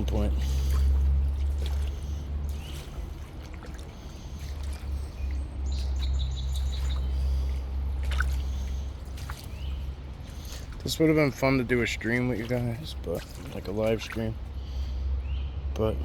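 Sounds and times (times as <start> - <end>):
water sloshing from wading: 0.0 - 15.6
small birds chirping: 0.0 - 16.0
steady low rumble: 0.0 - 16.0.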